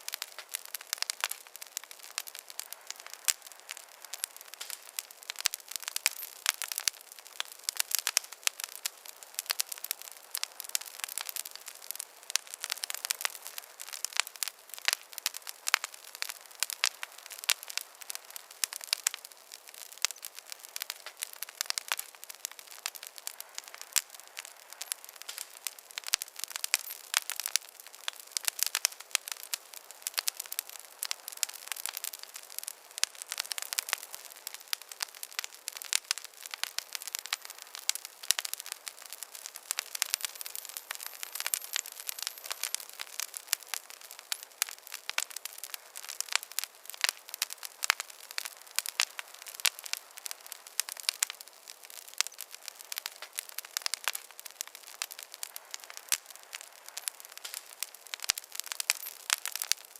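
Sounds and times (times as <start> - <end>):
soft hiss: 0.0 - 59.9
wood fire popping and snapping: 0.0 - 59.9.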